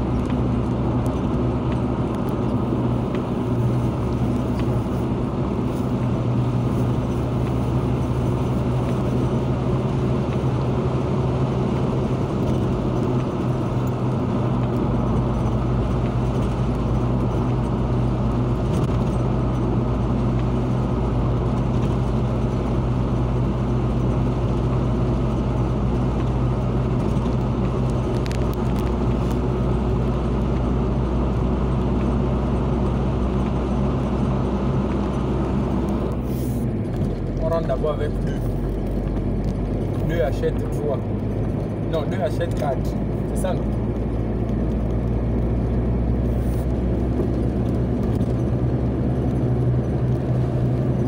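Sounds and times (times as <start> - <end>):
car engine hum: 0.0 - 51.0
tyre road noise: 0.0 - 51.0.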